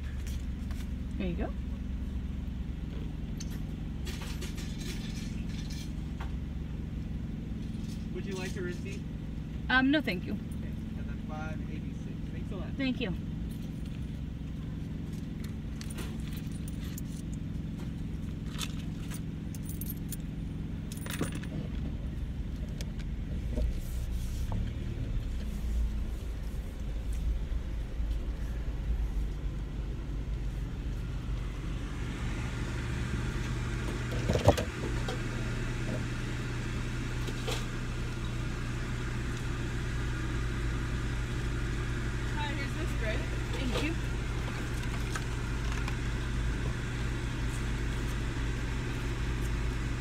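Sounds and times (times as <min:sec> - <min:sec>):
car engine hum: 0:00.0 - 0:50.0.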